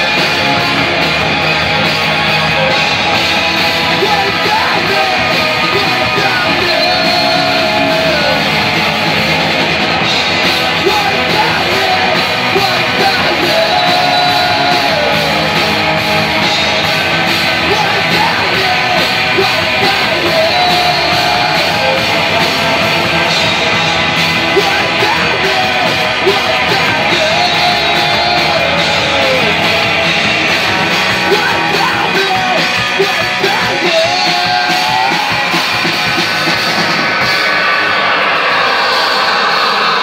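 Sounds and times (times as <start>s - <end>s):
drum kit: 0.0s - 40.0s
electric guitars: 0.0s - 40.0s
shouted lead vocals: 0.0s - 40.0s.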